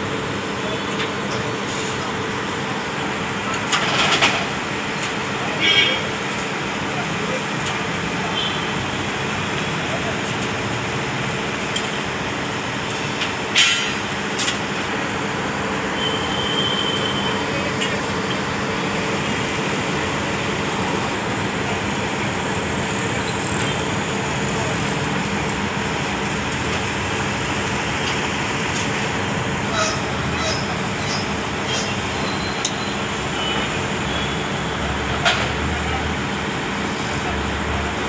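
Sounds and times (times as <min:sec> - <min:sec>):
heavy machine engine drone: 0:00.0 - 0:38.0.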